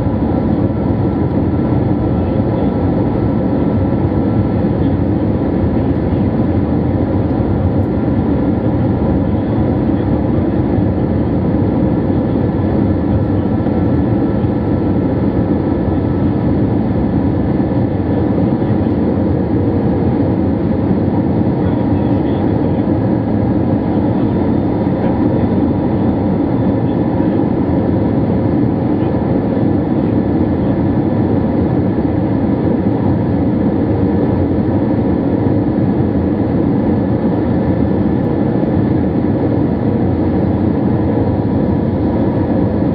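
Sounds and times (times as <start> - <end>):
jet engine cabin rumble: 0.0 - 42.9.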